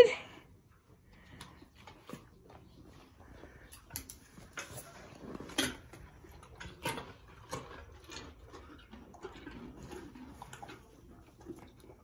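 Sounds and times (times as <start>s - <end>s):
horse crunching a carrot: 0.7s - 12.0s.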